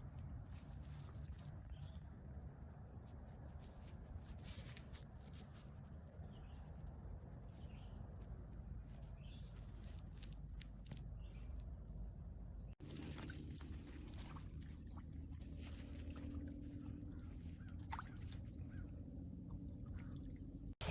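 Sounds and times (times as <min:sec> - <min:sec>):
faint low rumble: 0:00.0 - 0:20.9.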